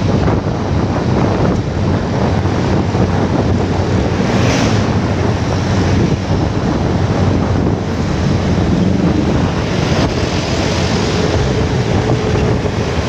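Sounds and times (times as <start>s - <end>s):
motorcycle running: 0.0s - 13.0s
road noise: 0.0s - 13.0s
wind buffeting microphone: 0.0s - 13.0s.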